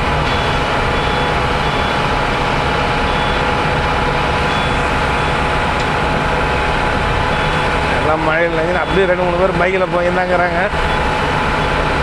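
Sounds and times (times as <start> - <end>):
bus engine and tyres on wet road: 0.0 - 12.0
thin steady whine: 0.1 - 12.0.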